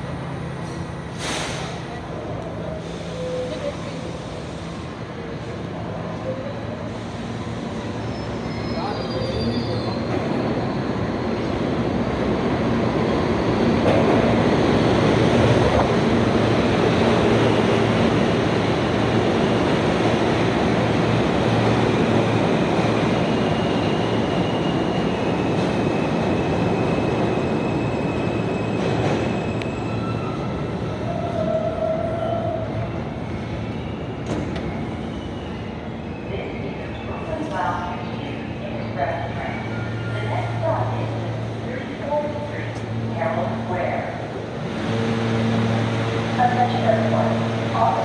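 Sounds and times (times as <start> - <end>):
subway train wheels rumbling: 0.0 - 48.0.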